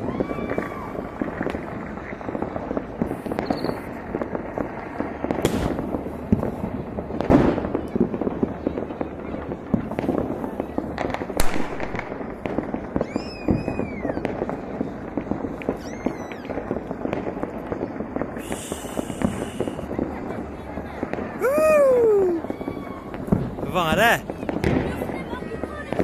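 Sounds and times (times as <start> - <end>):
firecrackers crackling: 0.0 - 26.0
firework bangs: 0.0 - 26.0
whistling fireworks: 0.0 - 26.0.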